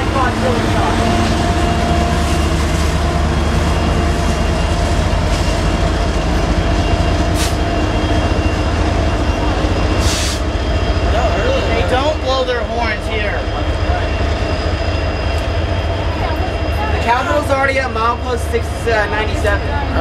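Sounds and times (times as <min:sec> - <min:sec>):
freight cars rolling on rails: 0:00.0 - 0:20.0
locomotive engine rumble: 0:00.0 - 0:20.0.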